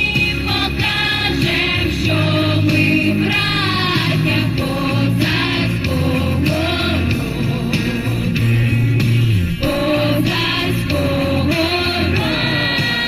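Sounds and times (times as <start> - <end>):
instrumental accompaniment with bass: 0.0 - 13.0
vocal ensemble singing: 0.0 - 13.0.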